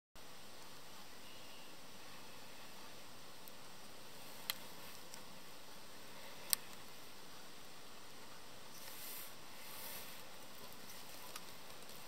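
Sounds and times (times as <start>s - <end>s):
faint hiss: 0.2s - 12.0s.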